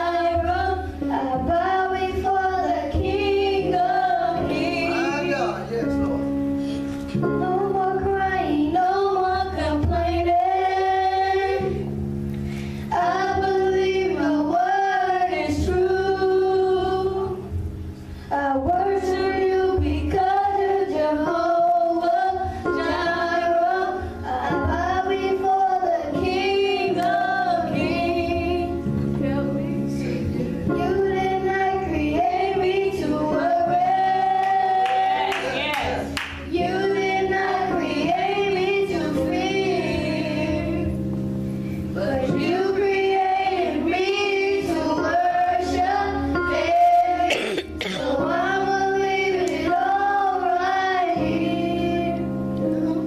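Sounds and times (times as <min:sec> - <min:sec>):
children singing into microphones: 0:00.0 - 0:53.0.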